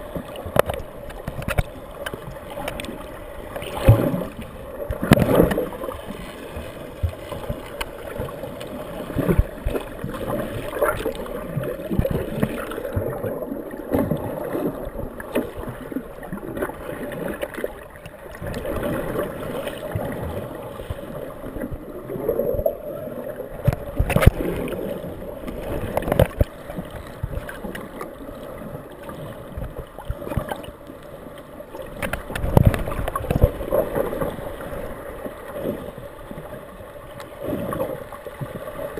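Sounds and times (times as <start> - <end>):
muffled underwater rushing: 0.0 - 38.9.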